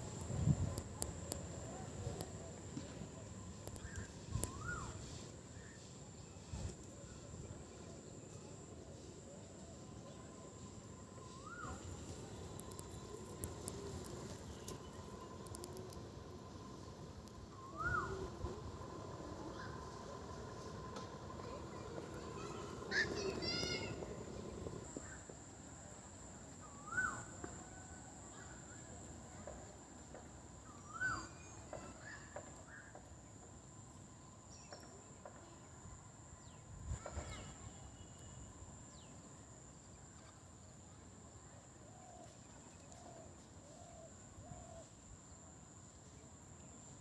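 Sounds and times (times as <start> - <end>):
faint high-pitched whine: 0.0 - 47.0.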